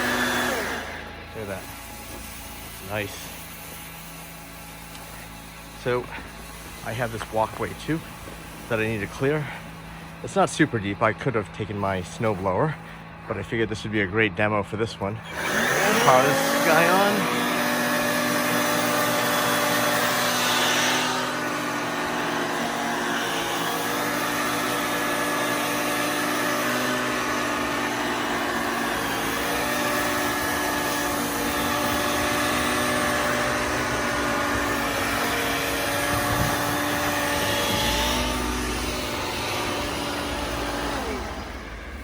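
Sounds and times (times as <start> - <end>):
power brush sweeping snow: 0.0 - 42.0.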